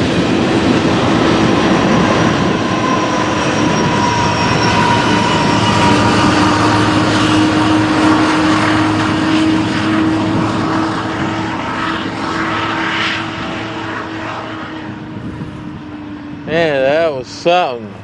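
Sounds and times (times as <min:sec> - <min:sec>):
locomotive engine drone: 0:00.0 - 0:18.0
rumble of train cars: 0:00.0 - 0:18.0.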